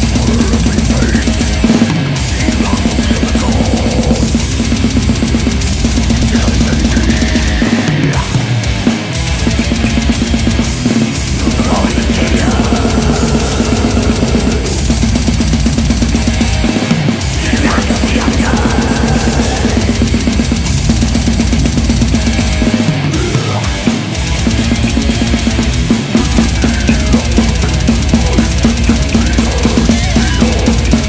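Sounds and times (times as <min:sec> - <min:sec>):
drum kit played hard: 0:00.0 - 0:31.0
heavy metal music: 0:00.0 - 0:31.0.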